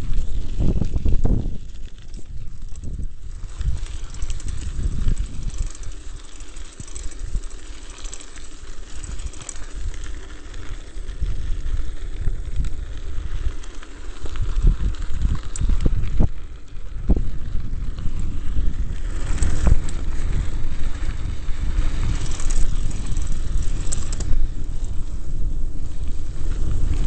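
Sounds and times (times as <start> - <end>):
wind buffeting microphone: 0.0 - 7.8, 8.7 - 27.0
bike rumbling and rattling: 0.0 - 27.0.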